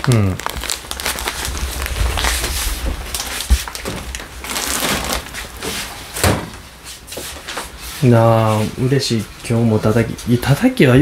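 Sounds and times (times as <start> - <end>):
kitchen rustling: 0.4 - 11.0.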